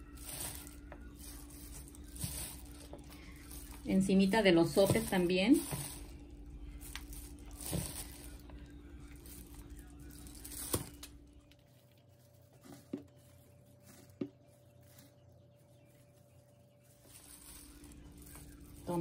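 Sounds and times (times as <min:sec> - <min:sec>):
lettuce rustling as scattered: 0:00.0 - 0:19.0
steady low hum: 0:00.0 - 0:19.0.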